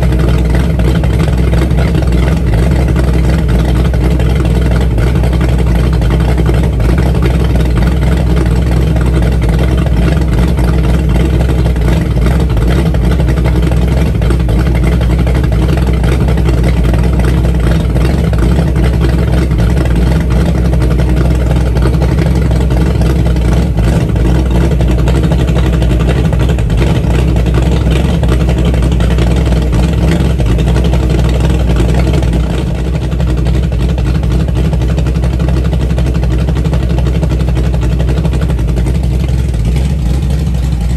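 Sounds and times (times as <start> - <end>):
car engine running loudly: 0.0 - 40.9.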